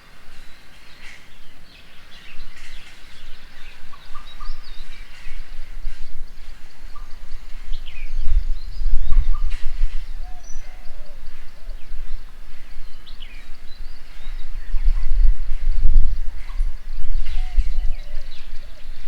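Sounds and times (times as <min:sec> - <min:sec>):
birds chirping: 0:00.0 - 0:19.0
low rumble: 0:01.3 - 0:19.0.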